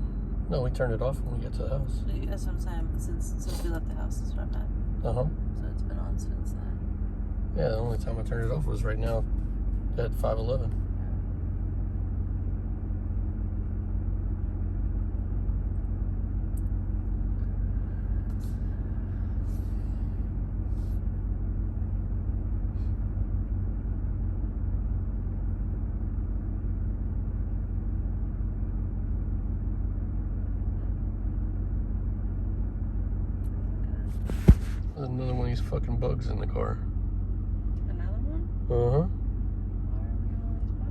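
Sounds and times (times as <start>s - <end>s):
truck engine drone: 0.0s - 40.9s.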